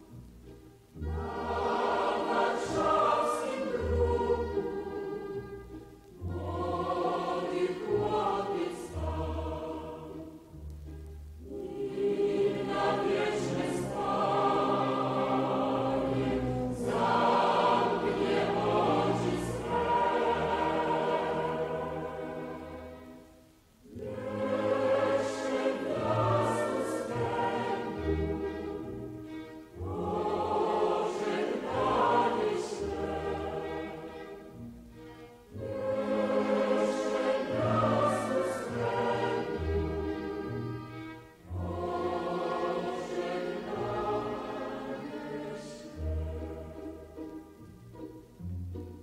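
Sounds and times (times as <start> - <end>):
choir singing with instruments: 0.0 - 49.0.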